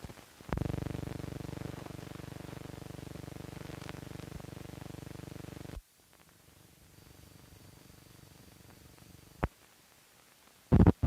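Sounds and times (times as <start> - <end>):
flickering low buzz: 0.0 - 9.5.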